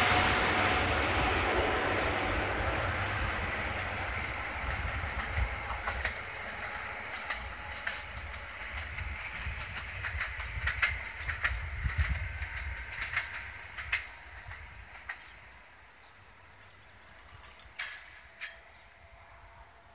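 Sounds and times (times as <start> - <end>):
diesel train rumble: 0.0 - 19.9
train wheels clicking over rails: 0.0 - 19.9.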